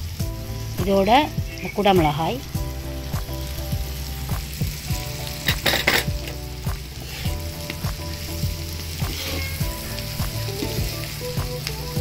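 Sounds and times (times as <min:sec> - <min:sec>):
vegetables sizzling in butter: 0:00.0 - 0:12.0.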